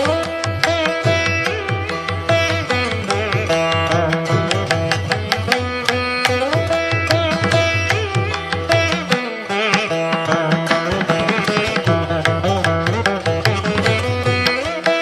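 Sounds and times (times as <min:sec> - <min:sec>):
plucked string notes: 0:00.0 - 0:15.0.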